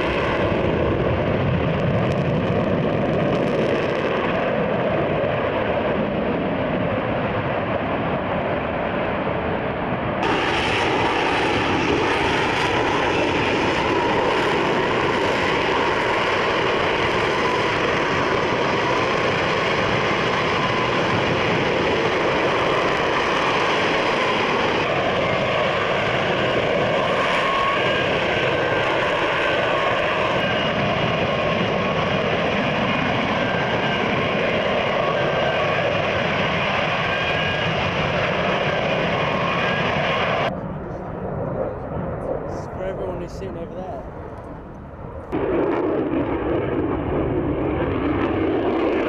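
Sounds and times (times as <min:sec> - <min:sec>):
jet engine roar: 0:00.0 - 0:49.0.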